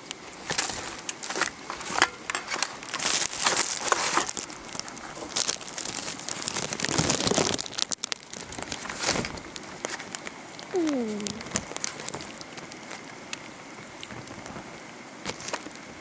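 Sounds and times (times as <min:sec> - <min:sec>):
skunk rustling through trash: 0:00.2 - 0:13.3.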